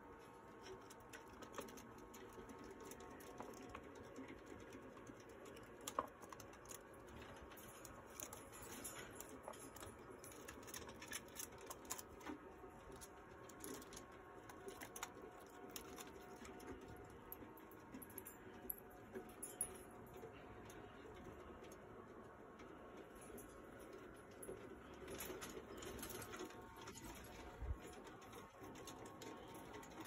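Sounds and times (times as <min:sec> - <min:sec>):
faint steady hum: 0:00.0 - 0:30.0
small animals tapping and clicking: 0:00.0 - 0:30.0.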